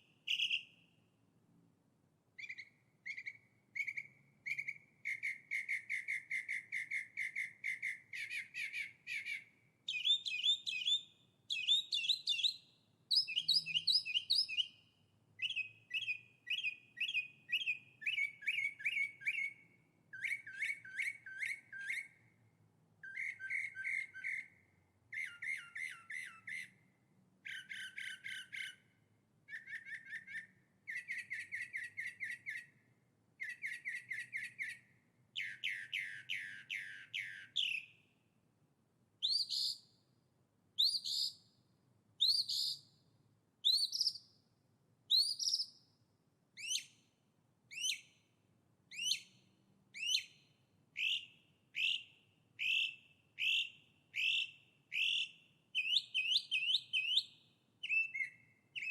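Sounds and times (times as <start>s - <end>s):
songbird singing: 0.0s - 1.1s, 2.4s - 22.4s, 23.0s - 38.2s, 39.2s - 40.0s, 40.8s - 41.6s, 42.2s - 44.4s, 45.1s - 45.9s, 46.6s - 48.3s, 48.9s - 58.9s.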